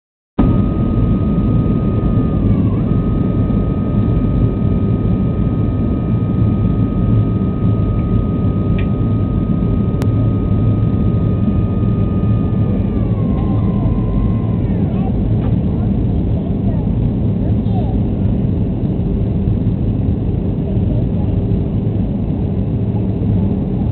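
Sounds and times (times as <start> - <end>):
airliner engines rumbling: 0.4 - 23.9
high engine whine: 0.4 - 23.9.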